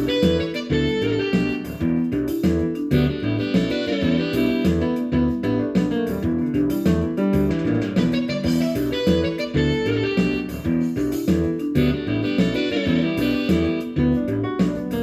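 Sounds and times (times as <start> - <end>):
plucked guitar instrumental music: 0.0 - 15.0.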